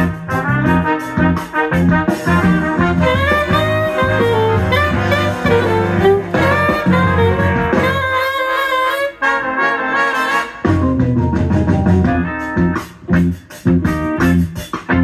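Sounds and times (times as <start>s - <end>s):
alto saxophone funk melody: 0.0s - 15.0s
bass: 0.0s - 15.0s
brass band accompaniment: 0.0s - 15.0s.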